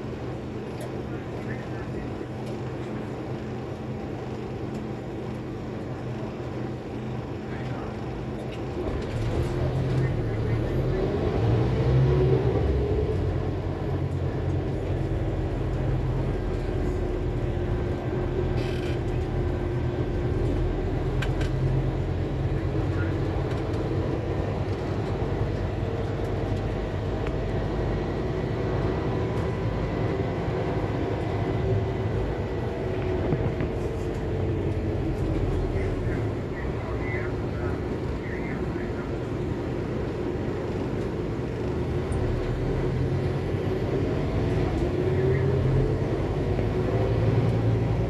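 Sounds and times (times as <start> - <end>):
bus engine and road rumble: 0.0 - 48.0
drivetrain whine: 0.0 - 48.0.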